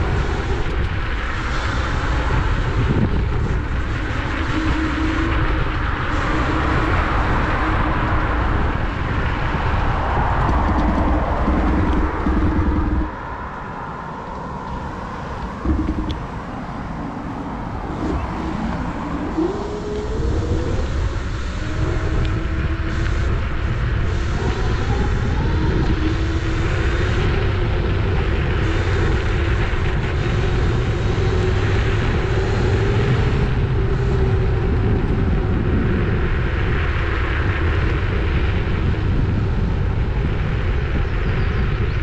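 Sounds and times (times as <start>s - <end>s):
electric motor whine: 0.0s - 13.8s, 14.6s - 36.7s
steady rumble: 0.0s - 42.0s
wind buffeting microphone: 0.0s - 42.0s.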